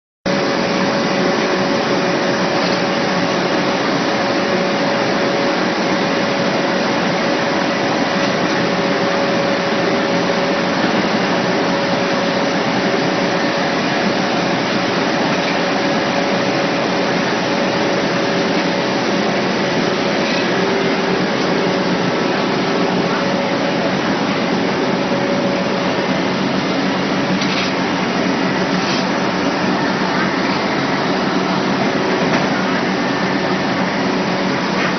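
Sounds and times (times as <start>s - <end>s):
baling machine running: 0.3s - 34.9s.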